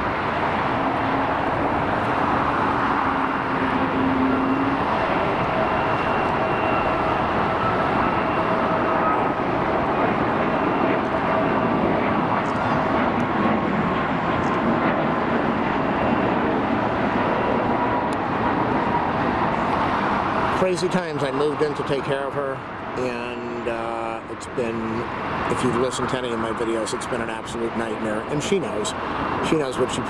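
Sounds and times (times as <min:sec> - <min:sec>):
high fan tones: 0:00.0 - 0:30.0
jet engine roar: 0:00.0 - 0:30.0.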